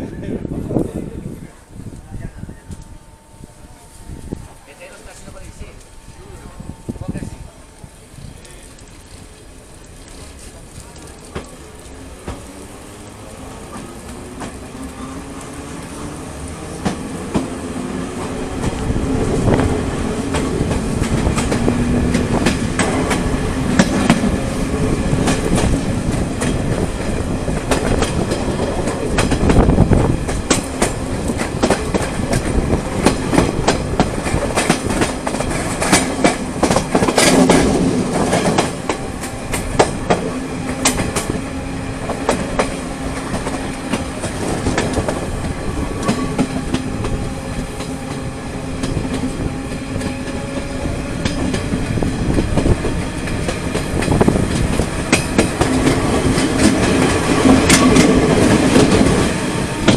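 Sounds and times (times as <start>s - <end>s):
low hum from train: 0.0s - 59.9s
train rumble: 0.0s - 59.9s
wheels clicking over rail joints: 4.8s - 59.9s.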